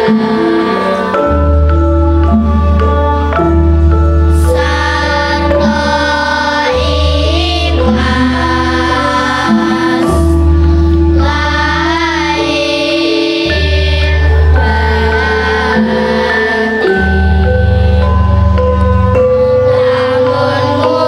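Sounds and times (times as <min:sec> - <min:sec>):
children's choir singing: 0:00.0 - 0:21.0
instrumental accompaniment: 0:00.0 - 0:21.0.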